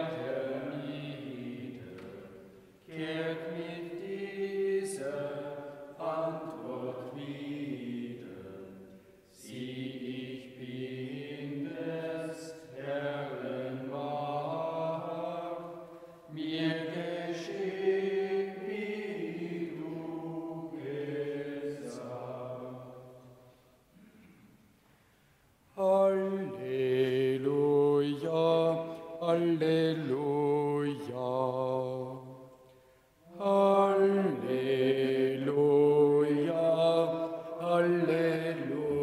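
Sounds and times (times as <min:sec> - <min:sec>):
congregation singing a hymn: 0:00.0 - 0:24.4, 0:25.8 - 0:39.0.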